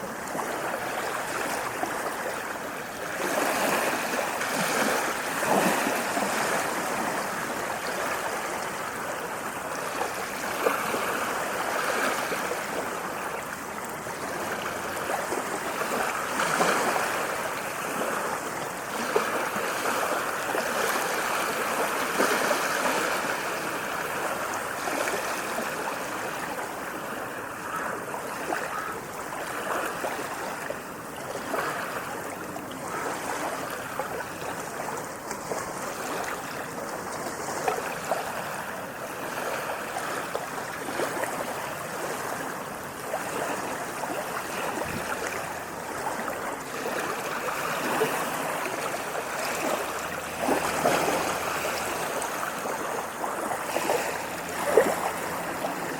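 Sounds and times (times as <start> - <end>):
small waves lapping at shore: 0.0 - 55.9.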